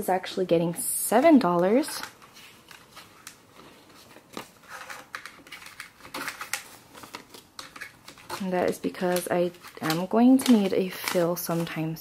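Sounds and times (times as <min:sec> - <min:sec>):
banknotes rustling: 0:01.1 - 0:12.0.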